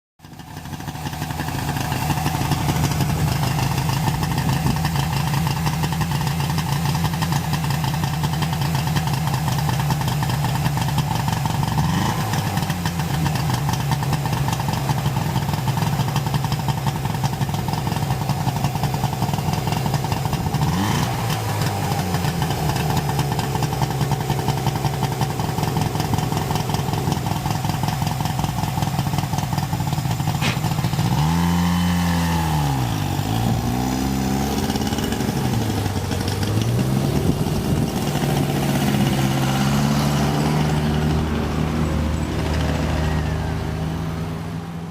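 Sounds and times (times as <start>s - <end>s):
engine throttle blips: 0.2s - 44.9s
small car engine idling: 0.2s - 44.9s.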